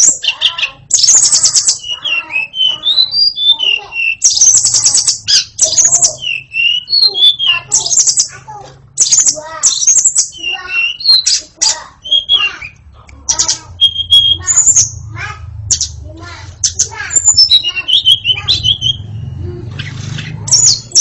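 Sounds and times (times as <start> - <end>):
bird whistling song: 0.0 - 8.4, 9.0 - 15.0, 16.6 - 21.0
bird harsh chattering: 0.0 - 21.0.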